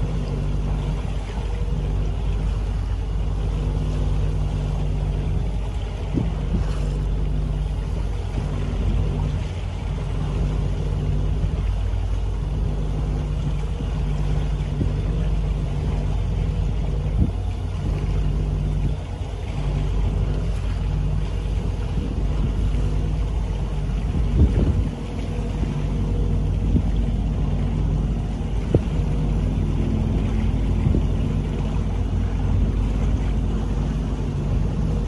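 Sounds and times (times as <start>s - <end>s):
motorboat engine humming: 0.0s - 35.0s
wind buffeting microphone: 0.0s - 35.0s.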